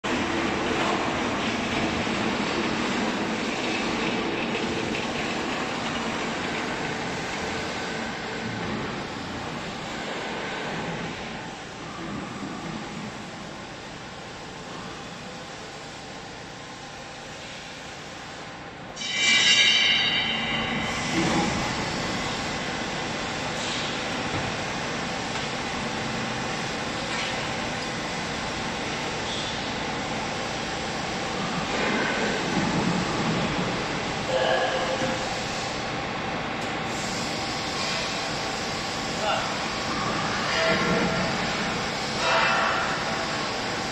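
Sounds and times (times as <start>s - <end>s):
factory machinery hum: 0.0s - 43.9s.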